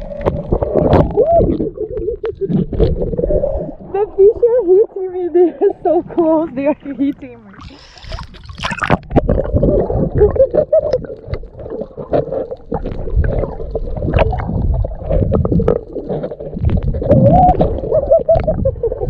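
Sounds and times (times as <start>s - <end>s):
underwater rumbling and gurgling: 0.0s - 19.0s.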